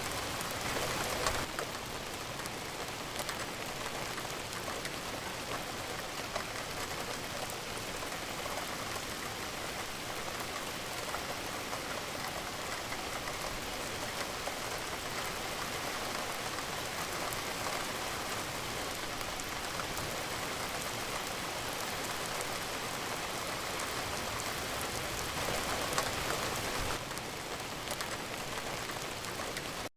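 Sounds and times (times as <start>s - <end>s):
rain pattering: 0.0s - 29.9s.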